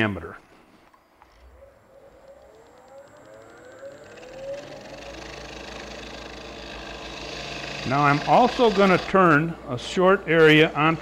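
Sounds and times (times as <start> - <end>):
lathe motor whine: 1.3 - 11.0
turning tool cutting wood: 2.0 - 11.0.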